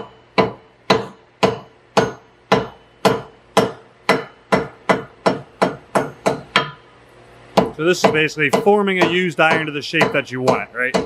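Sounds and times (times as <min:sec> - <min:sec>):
hammer striking metal: 0:00.0 - 0:06.8, 0:07.6 - 0:11.0.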